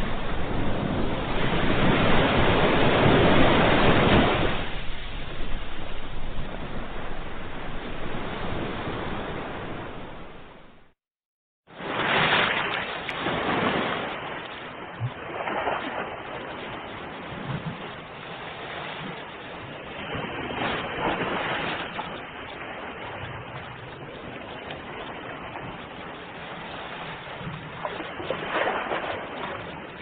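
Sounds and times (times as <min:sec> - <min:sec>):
ocean waves breaking on shore: 0:00.0 - 0:11.0, 0:11.7 - 0:30.0.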